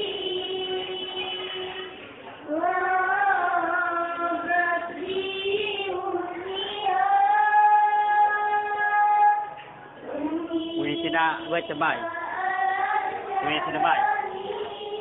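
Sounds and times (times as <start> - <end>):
girl singing devotional song: 0.0 - 15.0.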